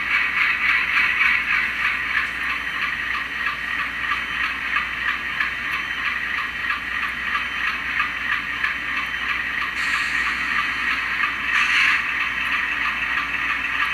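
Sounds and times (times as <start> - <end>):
model locomotive diesel engine sound: 0.0 - 13.9.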